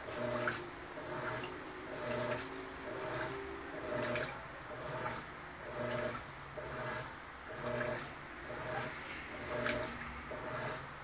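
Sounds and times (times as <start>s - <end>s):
washing machine motor humming: 0.0s - 11.0s
water swishing in a tub: 0.0s - 11.0s.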